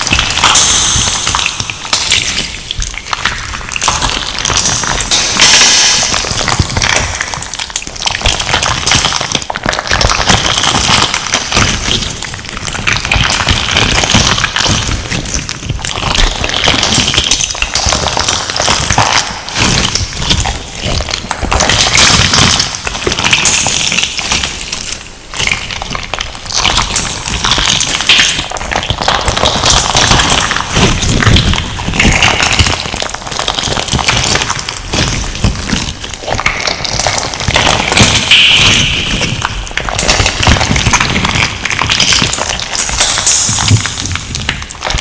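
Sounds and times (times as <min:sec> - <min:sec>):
crunchy slime crackling and popping: 0:00.0 - 0:45.0.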